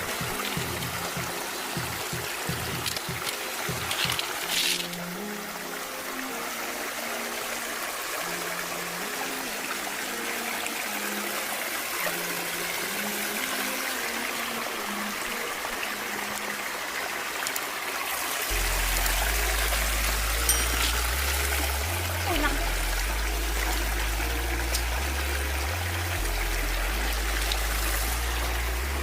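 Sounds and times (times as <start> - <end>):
running water rushing: 0.0 - 29.0
soft background music: 0.0 - 29.0.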